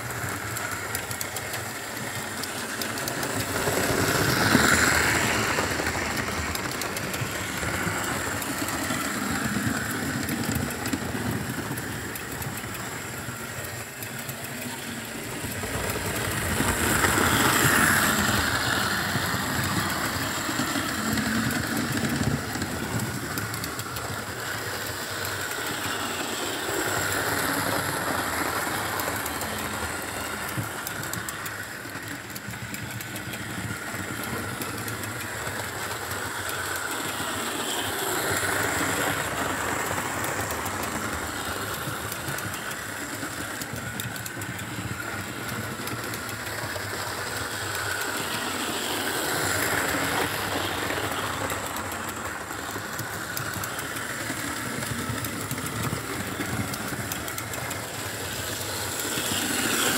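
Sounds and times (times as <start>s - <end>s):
model train motor humming: 0.0s - 59.9s
wheels running over rails: 0.0s - 59.9s.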